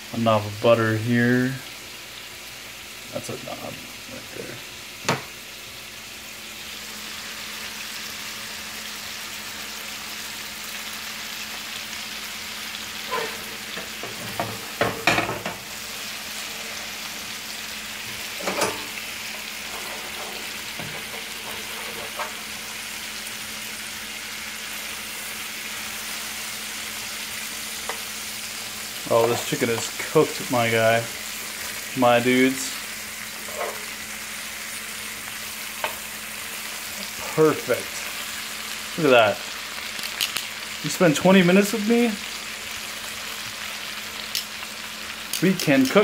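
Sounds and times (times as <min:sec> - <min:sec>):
chicken sizzling in pan: 0:00.0 - 0:46.0.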